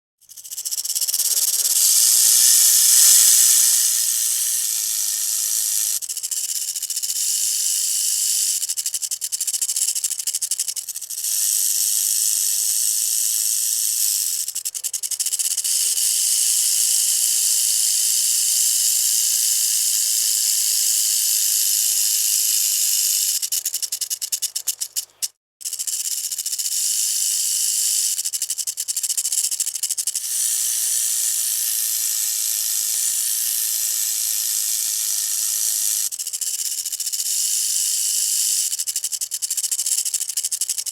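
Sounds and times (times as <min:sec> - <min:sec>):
rattlesnake tail rattle: 0:00.2 - 0:40.9.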